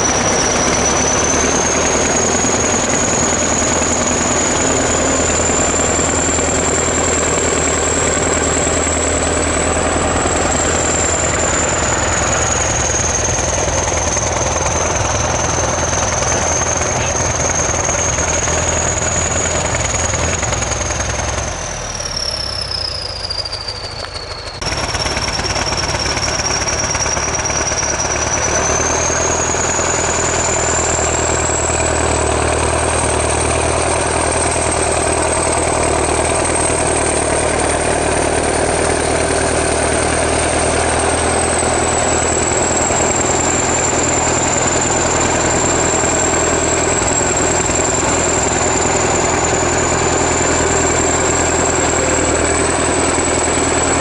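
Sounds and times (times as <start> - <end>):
bulldozer diesel engine running: 0.0 - 54.0
high engine whine: 0.0 - 54.0.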